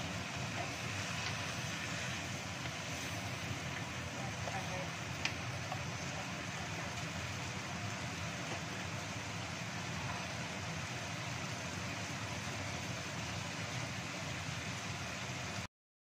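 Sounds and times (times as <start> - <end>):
stir-fry sizzling in a wok: 0.0 - 15.7.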